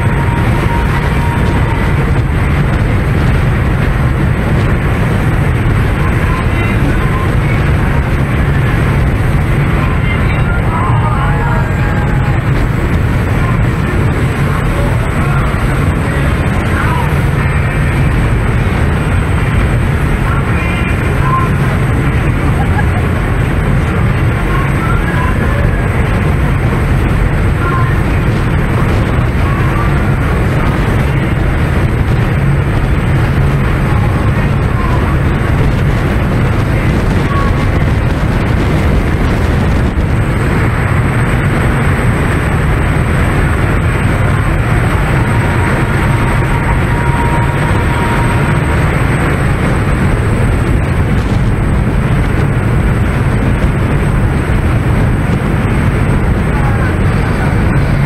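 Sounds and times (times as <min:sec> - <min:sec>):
boat engine rumbling: 0:00.0 - 0:58.0
wind buffeting microphone: 0:00.0 - 0:58.0.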